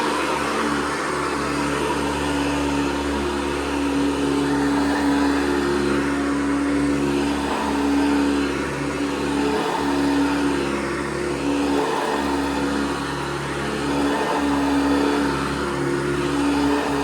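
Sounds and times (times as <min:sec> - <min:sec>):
upright vacuum cleaner running: 0:00.0 - 0:17.0.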